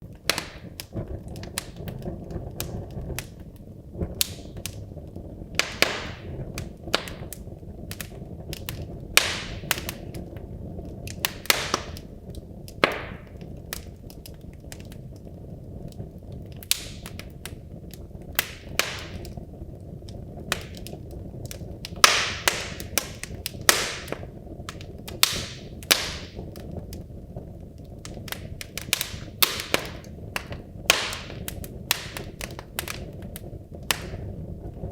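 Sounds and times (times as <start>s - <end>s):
logs crackling and popping: 0.0s - 34.9s
low rumble of flames: 0.0s - 34.9s.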